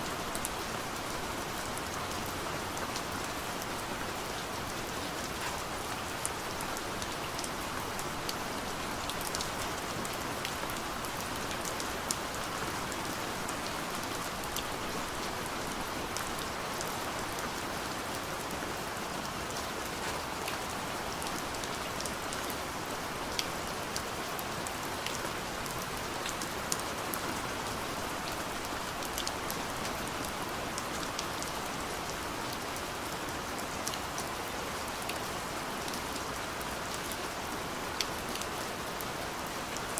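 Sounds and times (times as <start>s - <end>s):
soft rain hiss: 0.0s - 39.9s.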